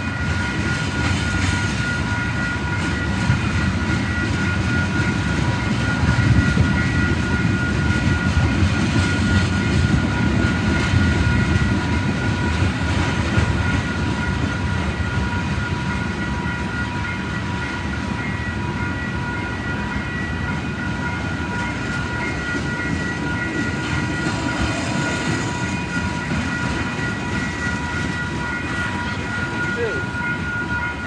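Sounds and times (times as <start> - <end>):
steady high-pitched tones: 0.0 - 31.0
train wheels rumbling and clacking: 0.0 - 31.0.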